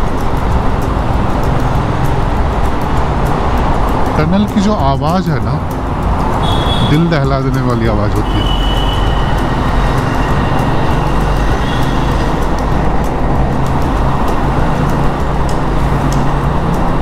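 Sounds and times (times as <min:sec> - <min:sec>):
low engine hum: 0:00.0 - 0:17.0
traffic roar echoing in tunnel: 0:00.0 - 0:17.0.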